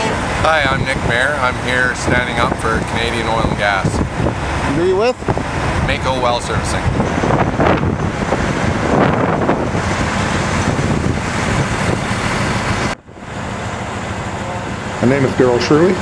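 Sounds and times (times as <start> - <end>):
wind buffeting microphone: 0.0 - 15.9
truck engines running: 0.0 - 16.0.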